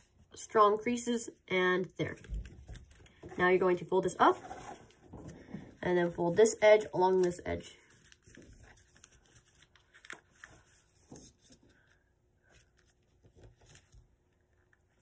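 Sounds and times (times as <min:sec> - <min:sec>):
paper rustling and crinkling: 0:02.1 - 0:15.0.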